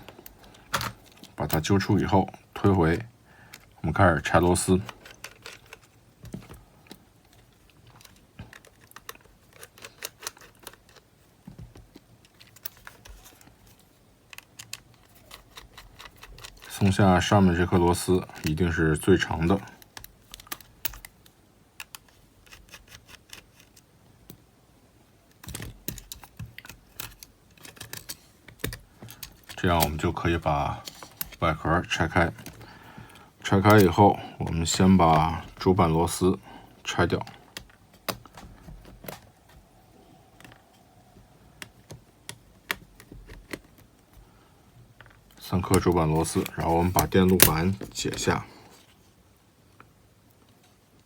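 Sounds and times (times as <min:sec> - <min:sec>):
handling noise: 0:00.0 - 0:23.9, 0:25.3 - 0:49.1.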